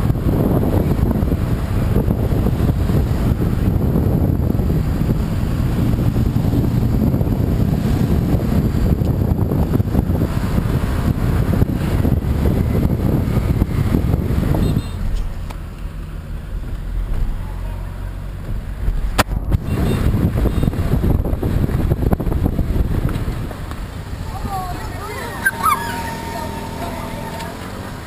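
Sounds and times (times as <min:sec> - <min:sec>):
wind rumble on microphone: 0:00.0 - 0:25.8.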